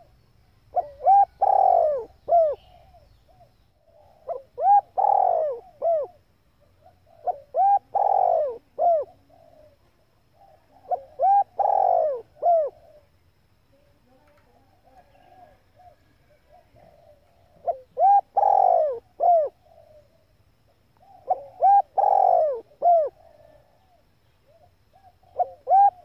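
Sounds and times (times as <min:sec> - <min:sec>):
dove cooing: 0:00.7 - 0:13.2, 0:14.1 - 0:26.0.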